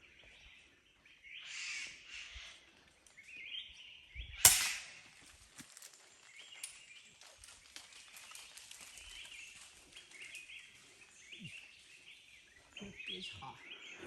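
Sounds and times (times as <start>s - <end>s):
small birds chirping: 0.0s - 5.0s, 6.0s - 14.0s
faint forest ambience: 0.0s - 14.0s.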